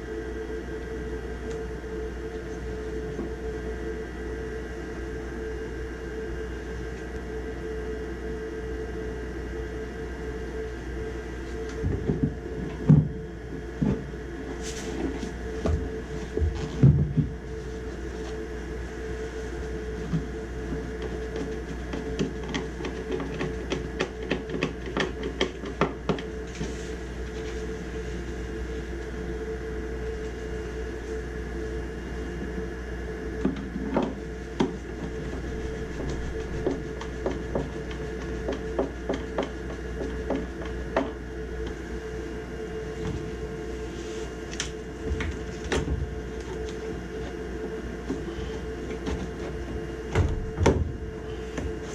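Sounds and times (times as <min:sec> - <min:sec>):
steady hum: 0:00.0 - 0:51.9.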